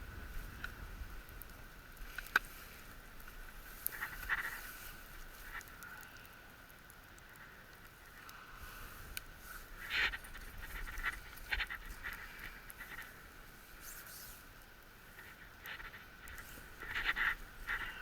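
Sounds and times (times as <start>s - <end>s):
campfire crackles and pops: 0.0s - 18.0s
campfire hiss: 0.0s - 18.0s.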